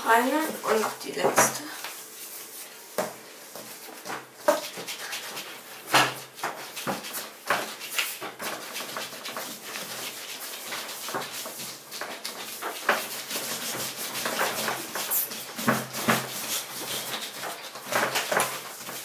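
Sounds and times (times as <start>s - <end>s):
hands rubbing dough on tabletop: 0.0s - 19.0s.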